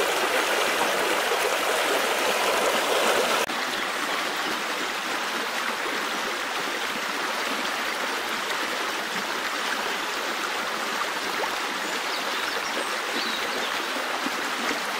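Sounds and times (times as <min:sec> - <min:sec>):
stream water splashing: 0:00.0 - 0:14.9.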